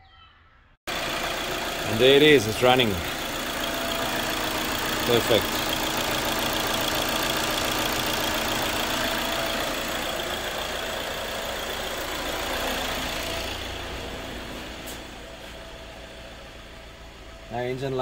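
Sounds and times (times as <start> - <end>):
diesel engine idling: 0.9 - 18.0.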